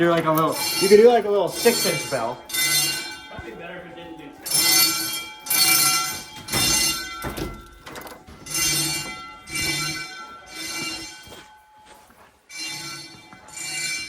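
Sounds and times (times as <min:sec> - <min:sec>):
fire alarm bells ringing: 0:00.0 - 0:14.0.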